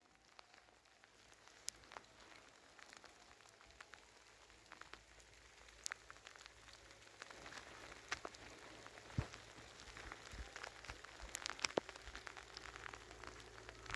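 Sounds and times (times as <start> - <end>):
faint rain falling: 0.0 - 13.9.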